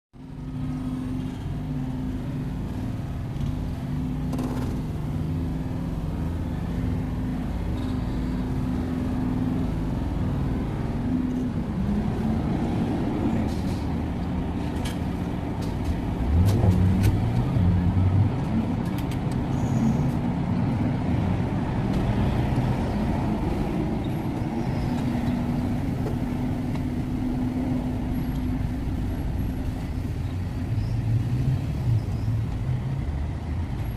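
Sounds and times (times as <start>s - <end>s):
vehicle engine humming: 0.2s - 33.9s.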